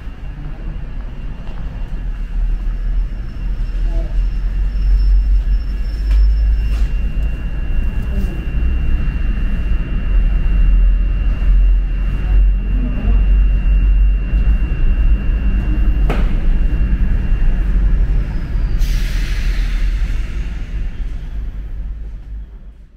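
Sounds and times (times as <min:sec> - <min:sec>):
low rumble of bus terminal: 0:00.0 - 0:22.9
thin high whine: 0:00.0 - 0:22.9.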